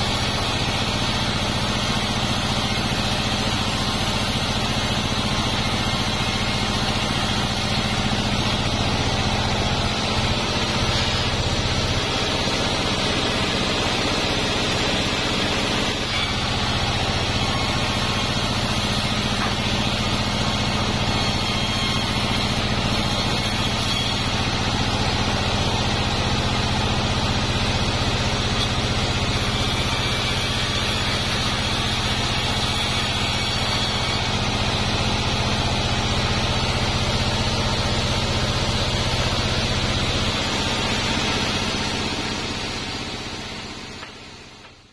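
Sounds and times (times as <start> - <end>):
bandsaw running: 0.0 - 44.9.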